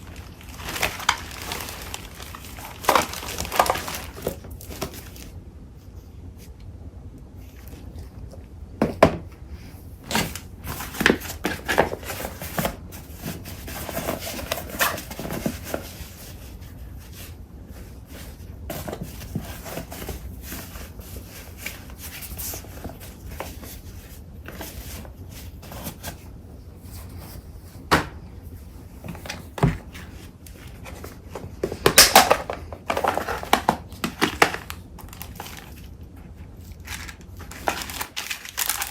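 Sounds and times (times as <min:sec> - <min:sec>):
paper rustling and crinkling: 0:00.0 - 0:05.4, 0:10.0 - 0:38.9.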